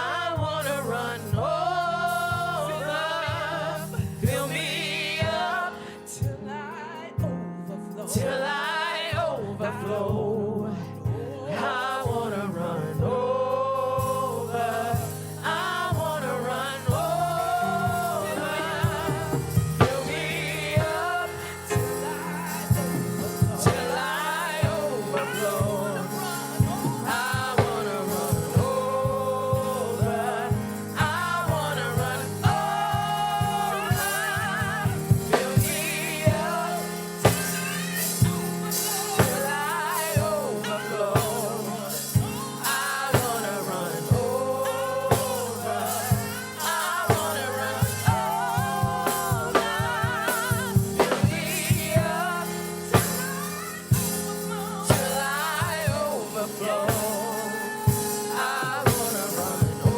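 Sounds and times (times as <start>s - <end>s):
live band with drum kit: 0.0s - 10.4s, 13.8s - 59.9s
singers holding wavering lines: 11.5s - 59.9s.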